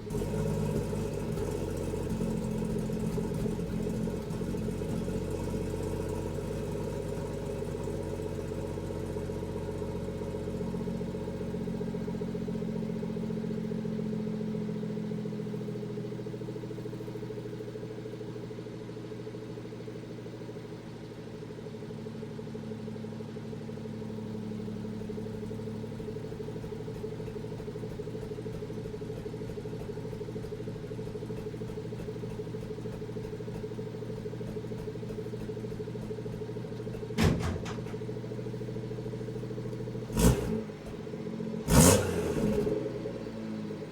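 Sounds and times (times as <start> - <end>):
car engine idling roughly: 0.0 - 43.9.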